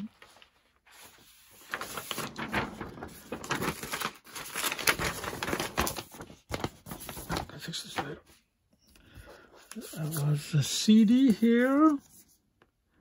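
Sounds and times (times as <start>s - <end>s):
paper rustling and crinkling: 0.0s - 8.4s, 9.2s - 12.7s.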